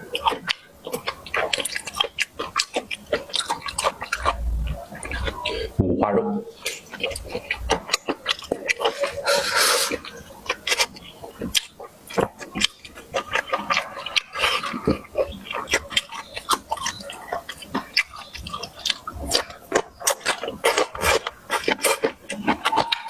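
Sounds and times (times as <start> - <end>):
chewing and lip-smacking: 0.0 - 5.7, 6.6 - 23.0.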